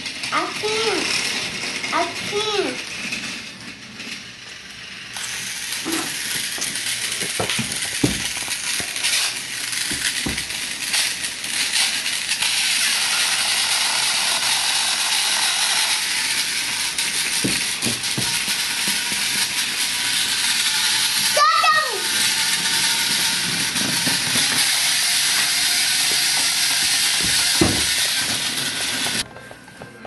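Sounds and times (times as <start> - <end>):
toy train whirring and rattling: 0.0 - 30.0.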